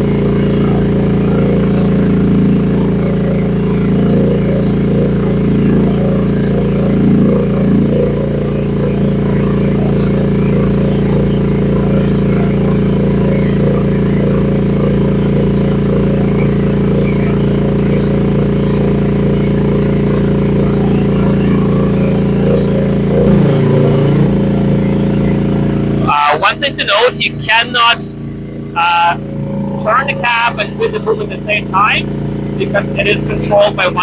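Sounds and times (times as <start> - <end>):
mini excavator engine running: 0.0 - 34.0.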